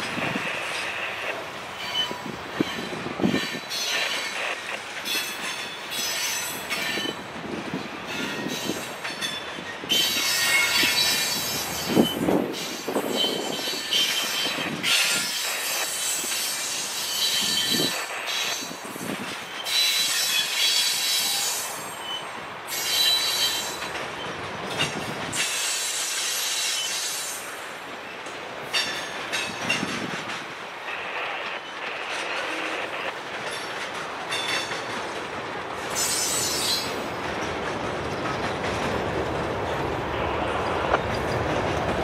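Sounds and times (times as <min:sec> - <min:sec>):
freight train wheels clicking: 0:00.0 - 0:42.0.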